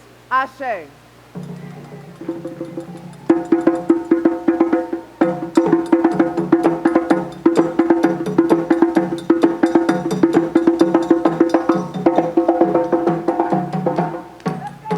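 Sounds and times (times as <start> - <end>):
woody pitched percussion: 1.2 - 14.9.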